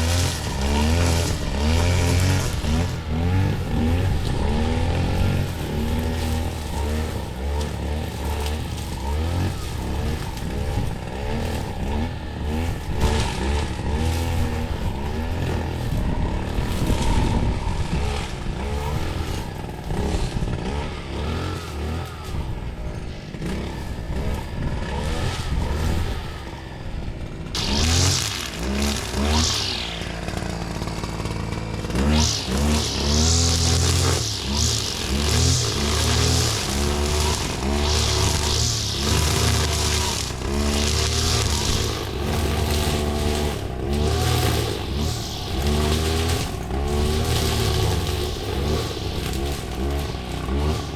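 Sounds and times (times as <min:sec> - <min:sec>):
small petrol engine revving: 0:00.0 - 0:50.9.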